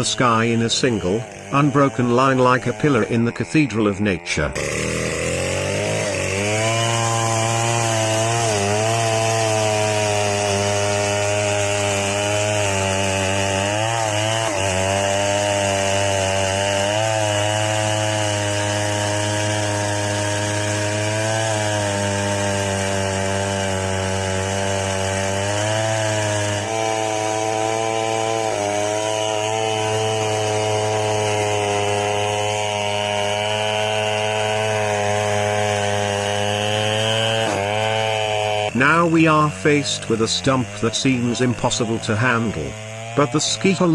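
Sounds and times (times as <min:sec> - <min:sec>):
chainsaw engine at high revs: 0:00.0 - 0:43.9.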